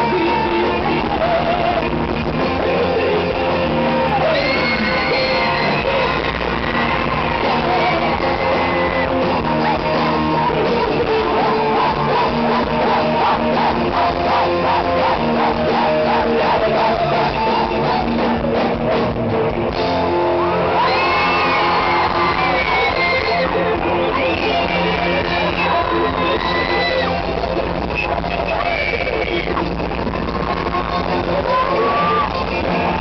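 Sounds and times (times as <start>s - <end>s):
rock gospel band with guitar: 0.0s - 33.0s
wavering melodic lead line: 1.8s - 33.0s.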